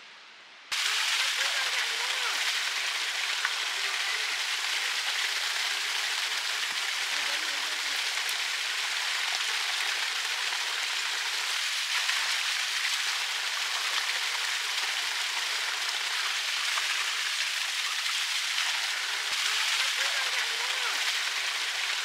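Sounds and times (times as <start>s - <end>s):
water splashing onto rocks: 0.7s - 22.0s.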